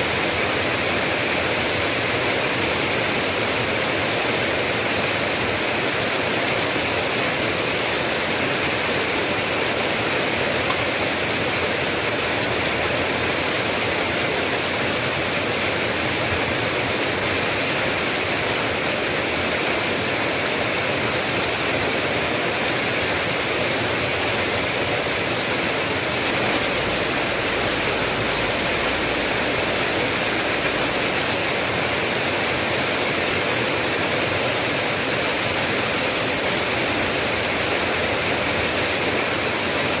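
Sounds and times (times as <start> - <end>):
heavy rain hissing: 0.0 - 40.0.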